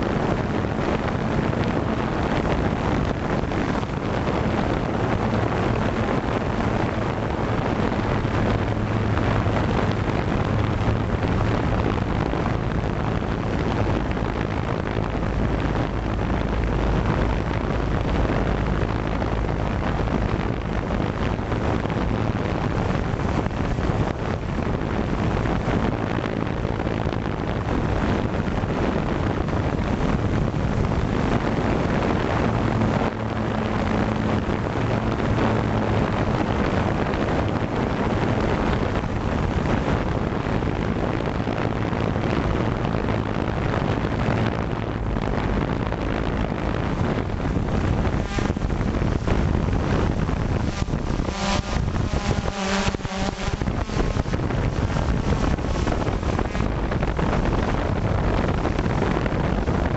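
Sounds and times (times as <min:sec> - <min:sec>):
drone motors humming: 0:00.0 - 0:59.9
wind noise: 0:00.0 - 0:59.9.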